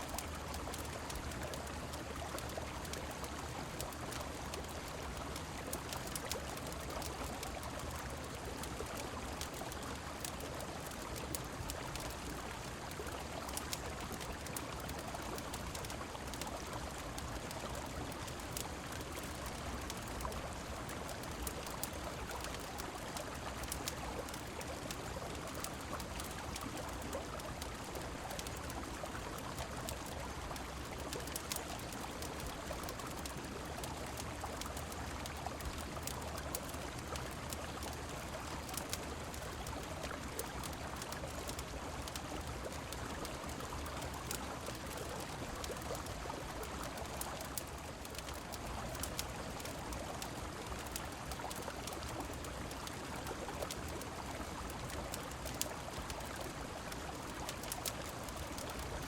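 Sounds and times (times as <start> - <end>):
rain: 0.0 - 59.0
river water flowing: 0.0 - 59.0
small sharp crackles: 0.0 - 59.0.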